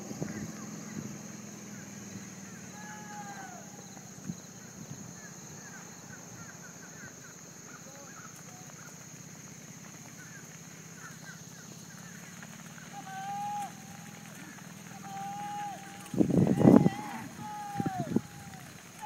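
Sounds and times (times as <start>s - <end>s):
birds chirping: 0.0s - 19.0s
cattle hooves clopping on asphalt: 0.0s - 19.0s.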